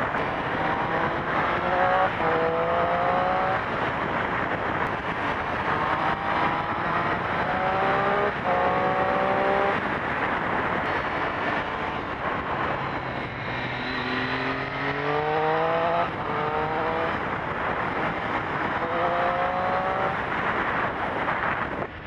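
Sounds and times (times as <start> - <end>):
motorcycle engine accelerating: 0.0 - 22.0
wind rush on microphone: 0.0 - 22.0.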